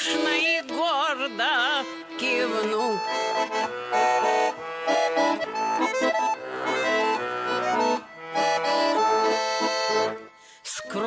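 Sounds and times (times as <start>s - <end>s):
accordion melody: 0.0s - 11.0s.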